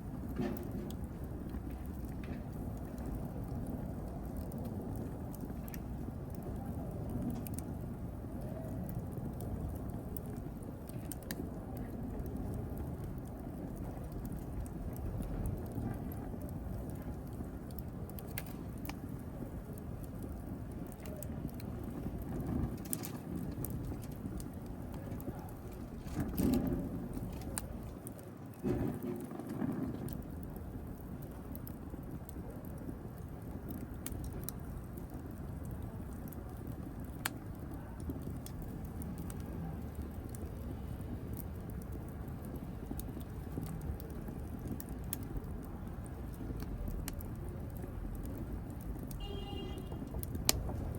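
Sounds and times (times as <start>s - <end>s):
fire rumbling: 0.0s - 50.9s
wood crackling and popping: 0.0s - 50.9s.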